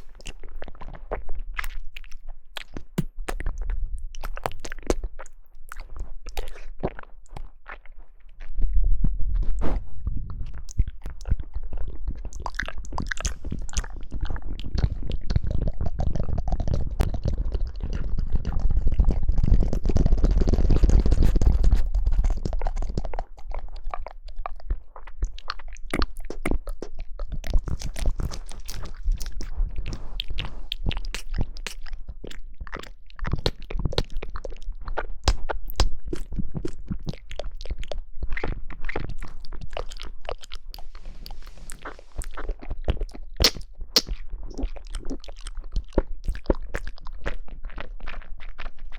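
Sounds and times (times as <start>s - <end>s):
person chewing jelly: 0.0s - 48.9s.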